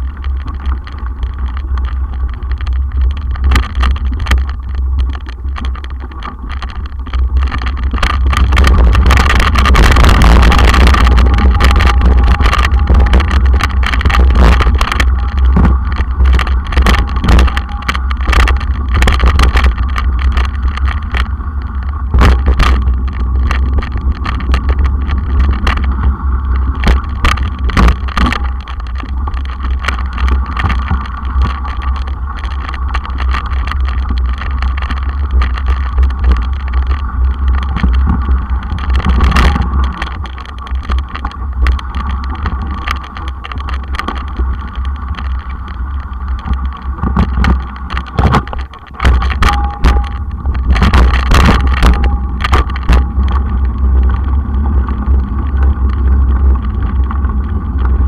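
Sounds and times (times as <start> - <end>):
bike knocks and rattles: 0.0 - 58.0
wind buffeting microphone: 0.0 - 58.0.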